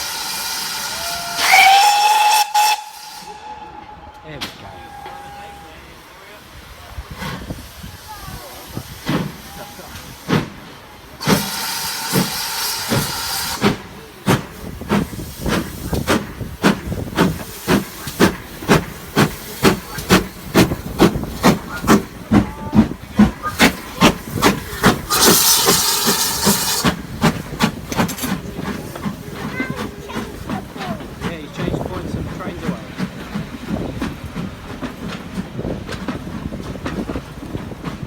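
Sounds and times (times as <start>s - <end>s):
steam hissing: 0.0s - 38.0s
steam locomotive exhaust chuffs: 0.0s - 38.0s.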